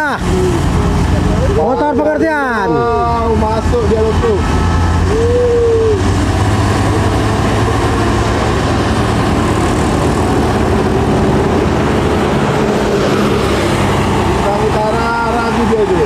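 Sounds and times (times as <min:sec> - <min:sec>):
bus engines running: 0:00.0 - 0:16.0
motorcycles passing: 0:00.0 - 0:16.0.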